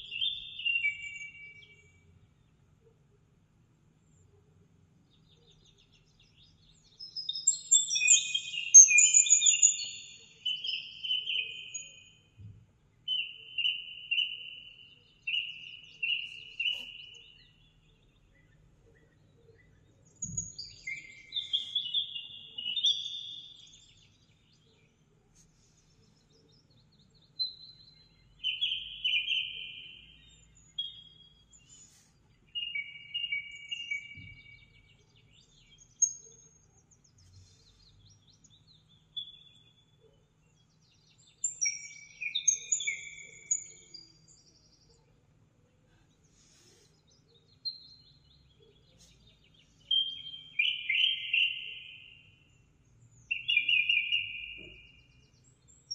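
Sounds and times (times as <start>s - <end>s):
songbird chirping and trilling: 0.0s - 3.4s, 4.0s - 55.9s.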